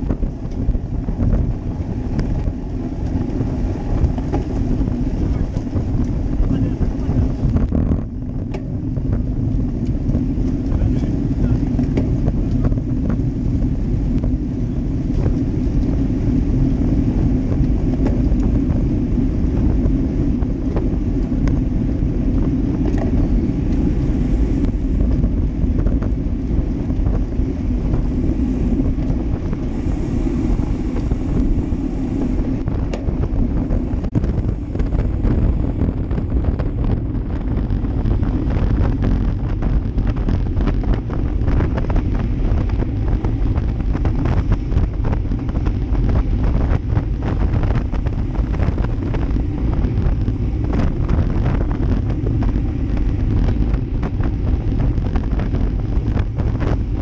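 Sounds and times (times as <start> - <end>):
bike tyres humming on asphalt: 0.0 - 57.0
wind rushing over microphone: 0.0 - 57.0.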